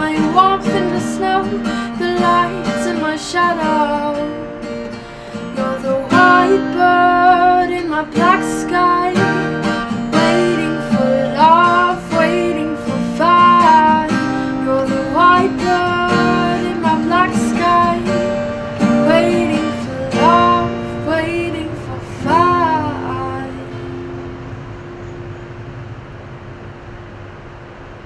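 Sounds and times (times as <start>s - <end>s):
woman singing: 0.0s - 24.1s
acoustic guitar strumming: 0.0s - 28.0s.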